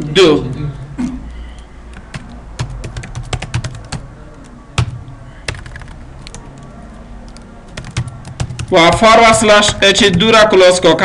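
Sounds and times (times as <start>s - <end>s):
typing on a keyboard: 1.3s - 10.4s.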